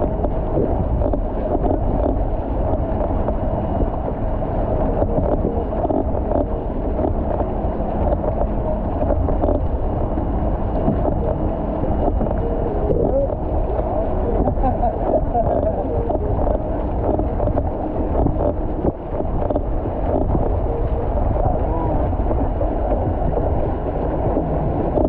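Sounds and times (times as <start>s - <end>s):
water splashing along hull: 0.0s - 25.0s
wind buffeting microphone: 0.0s - 25.0s.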